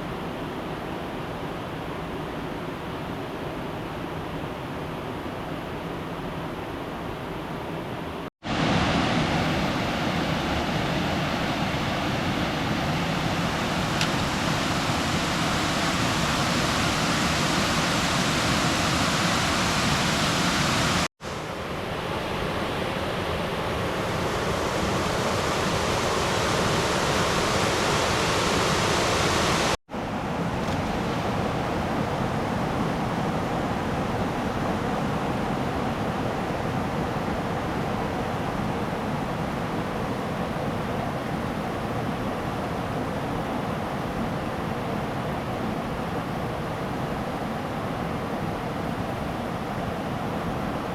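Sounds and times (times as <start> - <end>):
river water rushing: 8.4 - 50.9.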